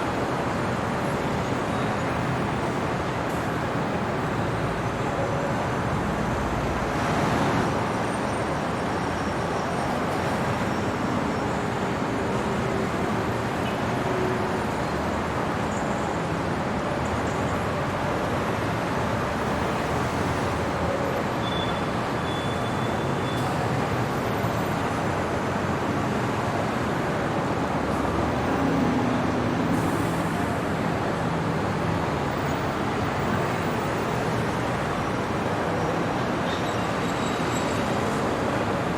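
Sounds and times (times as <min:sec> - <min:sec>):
city traffic hum: 0:00.0 - 0:38.9.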